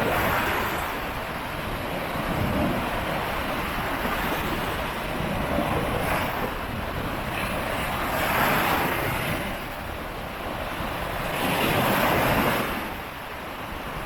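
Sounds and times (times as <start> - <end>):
sea waves washing onto shore: 0.0 - 14.0
wind buffeting microphone: 0.0 - 14.0.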